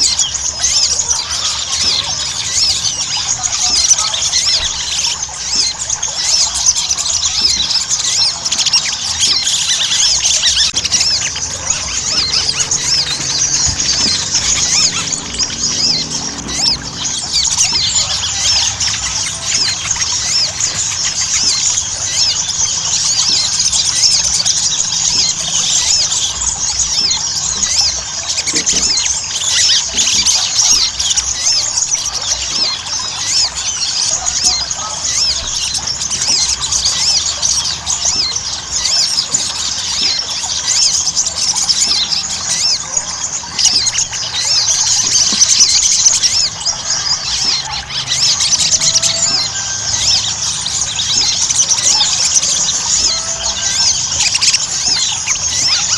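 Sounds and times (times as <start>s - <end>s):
bird chattering trills: 0.0s - 55.9s.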